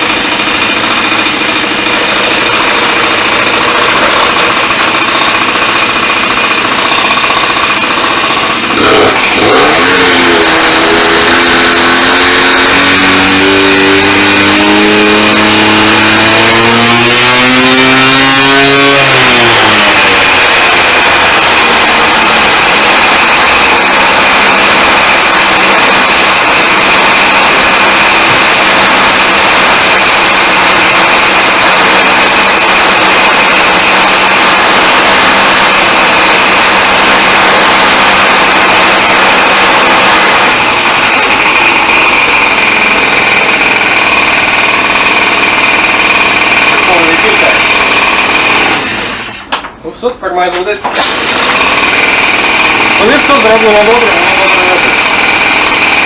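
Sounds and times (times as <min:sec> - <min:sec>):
scooter two-stroke engine revving: 0:00.0 - 0:49.8, 0:50.4 - 0:56.0.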